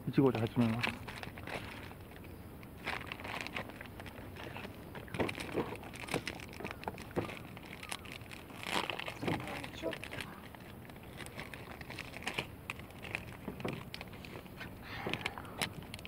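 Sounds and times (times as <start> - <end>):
plastic packaging crinkling: 0.2 - 16.0.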